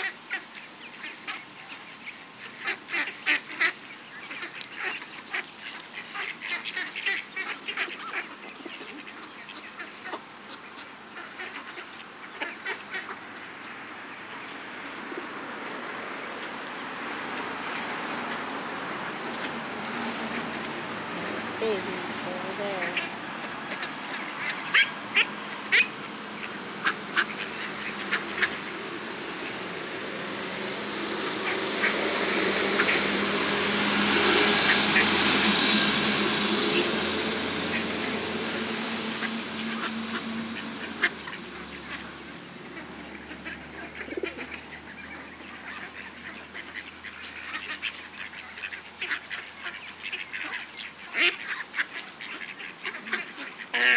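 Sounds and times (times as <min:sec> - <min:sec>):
ducks quacking: 0:00.0 - 0:53.9
steady low hum: 0:01.0 - 0:53.6.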